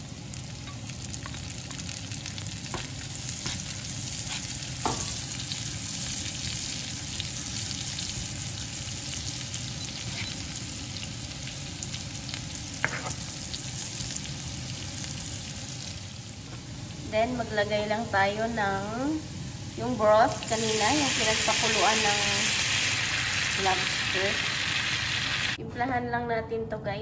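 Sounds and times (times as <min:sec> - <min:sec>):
garlic and onions sizzling in pan: 0:00.0 - 0:25.6.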